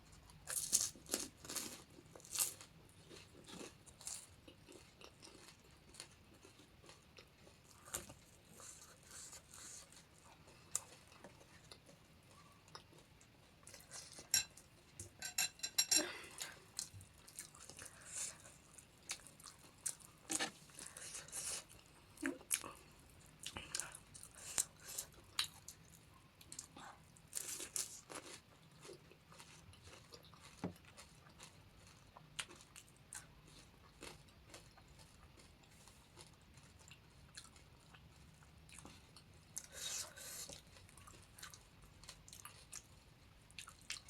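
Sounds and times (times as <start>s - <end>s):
crunching and chewing crisp food: 0.0s - 44.0s.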